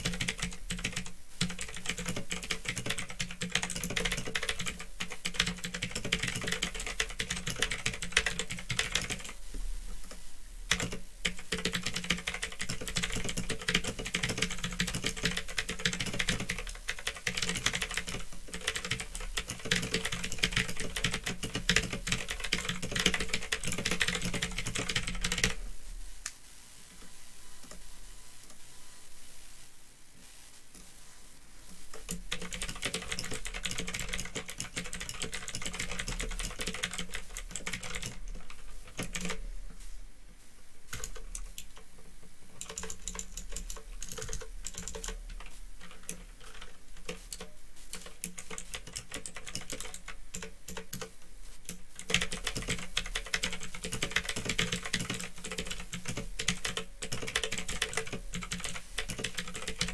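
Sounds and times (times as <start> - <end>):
fast typing on mechanical keyboard: 0.0 - 9.4, 10.7 - 25.6, 32.0 - 39.4, 40.9 - 41.8, 42.5 - 51.1, 51.7 - 59.9.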